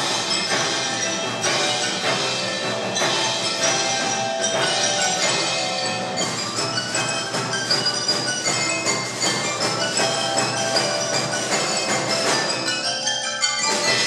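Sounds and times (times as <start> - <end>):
bell-like mallet percussion: 0.0 - 14.0.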